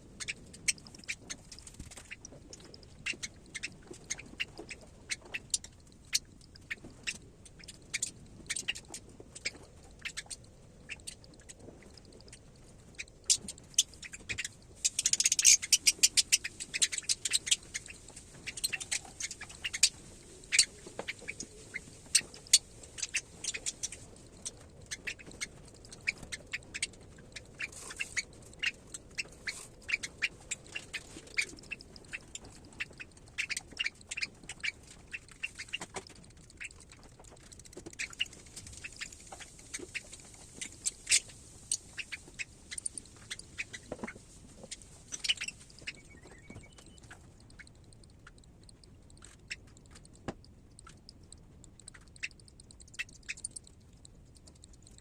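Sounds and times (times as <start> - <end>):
parrot chick cheeping: 0.2 - 55.0.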